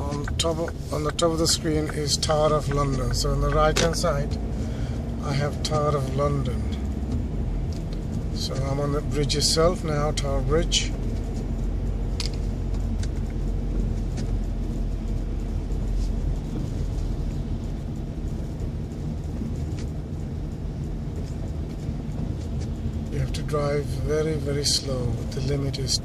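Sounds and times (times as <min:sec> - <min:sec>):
car driving on wet road: 0:00.0 - 0:26.0.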